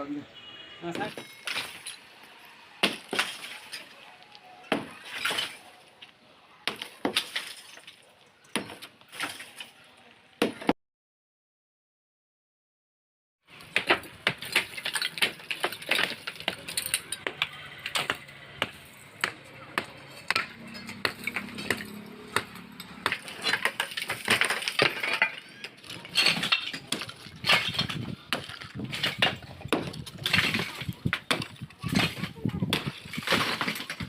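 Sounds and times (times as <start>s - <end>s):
masonry breaking and debris falling: 0.9s - 10.7s, 13.5s - 34.0s.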